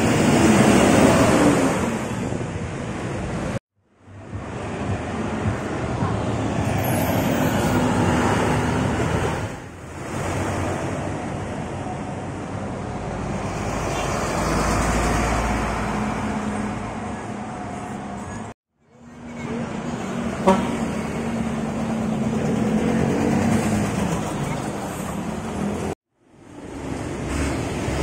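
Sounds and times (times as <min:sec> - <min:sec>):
coach bus engine passing: 0:00.0 - 0:18.2, 0:19.5 - 0:26.0.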